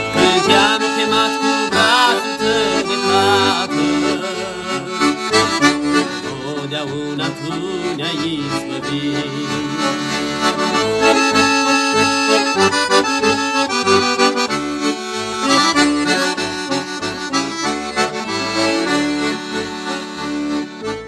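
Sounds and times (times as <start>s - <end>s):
instrumental worship music: 0.0s - 21.0s.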